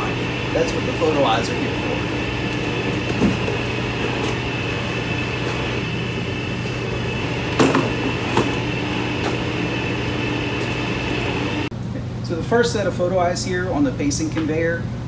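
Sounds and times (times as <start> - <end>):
conveyor motor hum and whine: 0.0 - 15.0.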